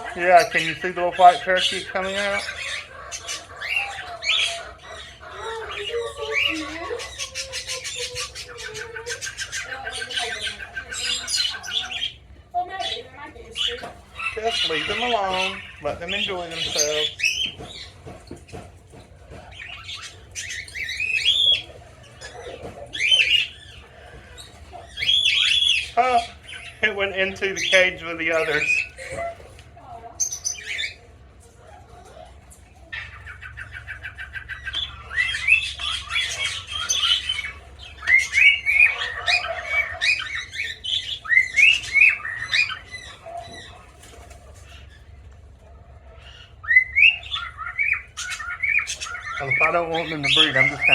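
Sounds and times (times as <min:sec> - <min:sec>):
small parrots squawking: 0:00.0 - 0:50.9.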